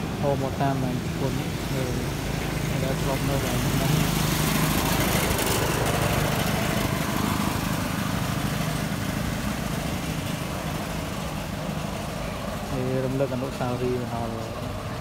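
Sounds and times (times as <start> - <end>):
small tractor engine chugging: 0.0 - 15.0.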